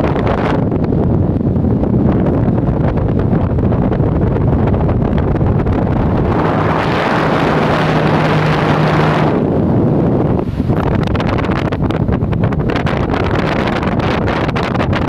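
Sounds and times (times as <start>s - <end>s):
steady low hum: 0.0s - 14.0s
fan wind buffeting microphone: 0.0s - 15.0s.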